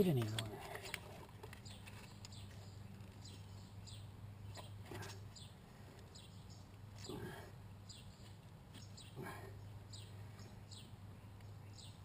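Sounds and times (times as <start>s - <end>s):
small bird chirping: 0.1s - 12.0s.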